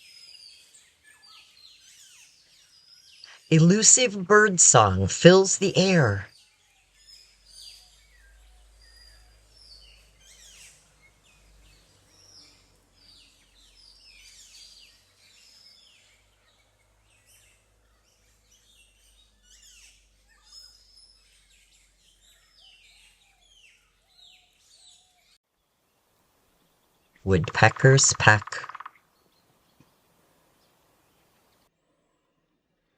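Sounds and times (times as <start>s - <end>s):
small birds chirping: 0.0s - 25.9s, 26.6s - 31.6s.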